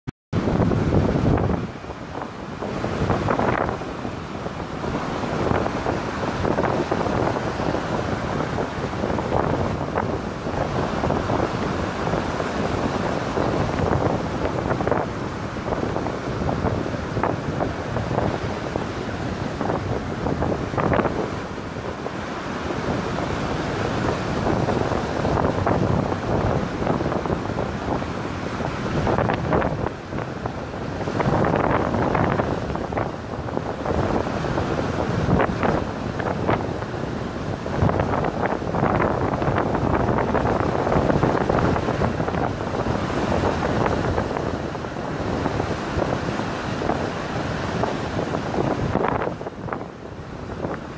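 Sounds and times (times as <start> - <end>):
waves on pebble beach: 0.4 - 50.9
wind buffeting microphone: 0.4 - 50.9.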